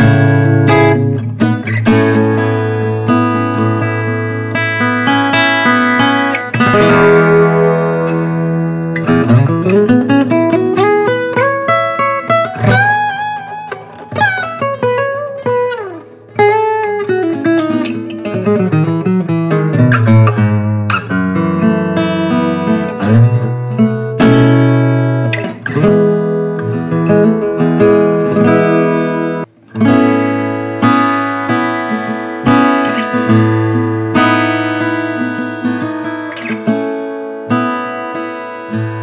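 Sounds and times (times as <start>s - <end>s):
acoustic guitar picking and strumming: 0.0s - 39.0s.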